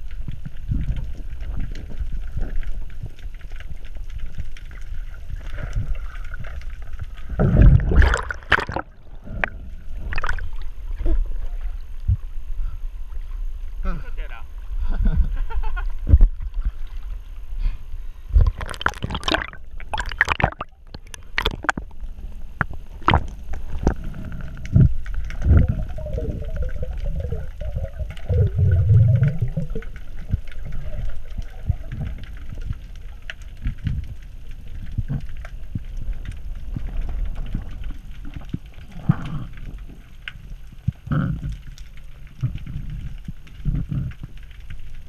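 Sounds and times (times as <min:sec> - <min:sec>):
underwater knocks and splashes: 0:00.0 - 0:12.3, 0:15.1 - 0:17.2, 0:18.3 - 0:45.0
muffled water sloshing and gurgling: 0:00.0 - 0:45.0.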